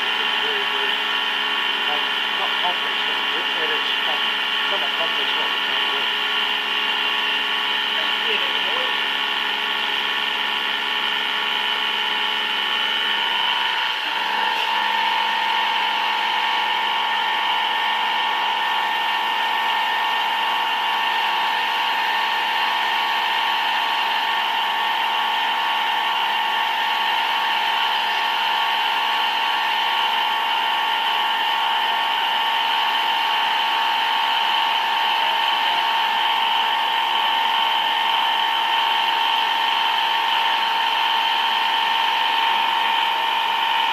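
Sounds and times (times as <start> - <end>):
machine tool high-pitched whine: 0.0 - 43.9.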